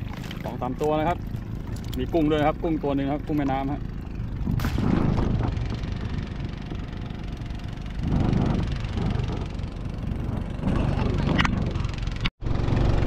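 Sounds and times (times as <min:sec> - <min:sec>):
water swells and handling noise: 0:00.0 - 0:12.1
small boat engine running: 0:00.0 - 0:13.0.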